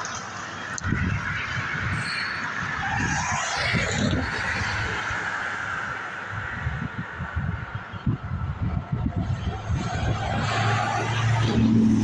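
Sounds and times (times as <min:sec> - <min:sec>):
road traffic noise: 0:00.0 - 0:12.0
wind buffeting microphone: 0:00.0 - 0:12.0.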